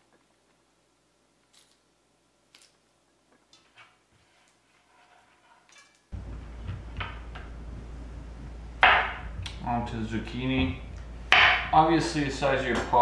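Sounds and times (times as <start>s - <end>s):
steady room hum: 0.0s - 13.0s.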